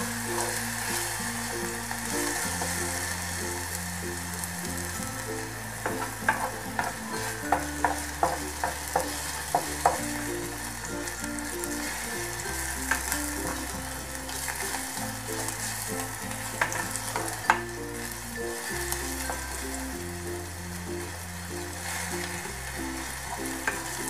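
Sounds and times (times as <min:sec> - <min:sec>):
garlic sizzling in oil: 0:00.0 - 0:24.0.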